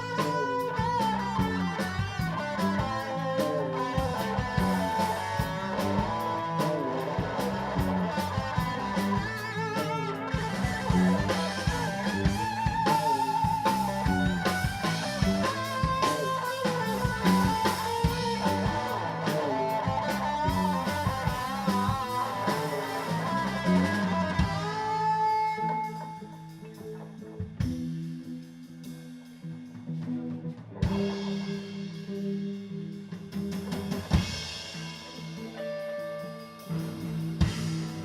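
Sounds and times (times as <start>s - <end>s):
bass: 0.0s - 38.0s
drum kit: 0.0s - 38.0s
electric guitar lead: 0.0s - 38.0s.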